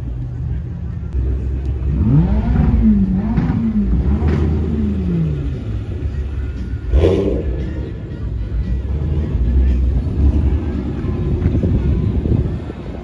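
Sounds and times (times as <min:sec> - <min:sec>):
car engine revving: 0:01.2 - 0:13.0.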